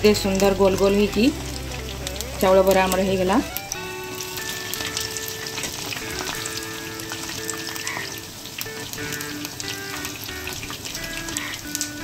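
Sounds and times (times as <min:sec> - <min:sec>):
fritters deep-frying in oil: 0:00.0 - 0:12.0
soft instrumental music: 0:00.0 - 0:12.0.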